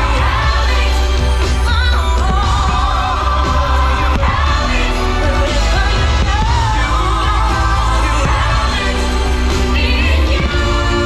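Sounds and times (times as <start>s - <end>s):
heavy bass: 0.0s - 11.0s
pop music with singing: 0.0s - 11.0s.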